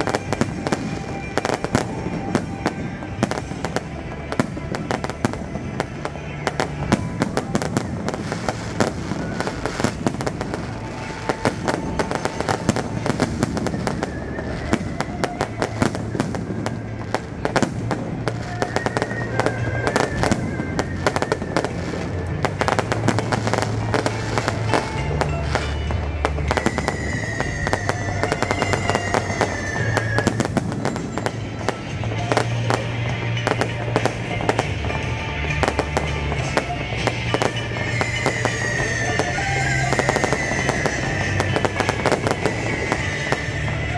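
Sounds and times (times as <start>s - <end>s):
fireworks bangs and crackling: 0.0s - 43.9s
music playing: 0.0s - 43.9s.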